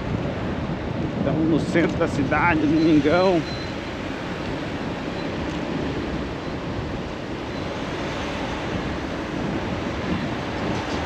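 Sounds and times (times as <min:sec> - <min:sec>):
wind rushing over microphone: 0:00.0 - 0:11.0
vehicle noise: 0:01.6 - 0:11.0.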